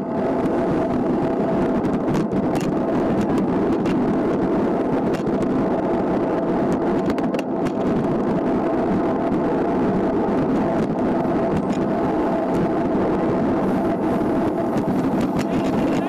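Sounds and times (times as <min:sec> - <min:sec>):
tyres rolling on asphalt: 0:00.0 - 0:16.0
wind rushing over microphone: 0:00.0 - 0:16.0
bike clicking: 0:00.2 - 0:09.5, 0:10.1 - 0:16.0.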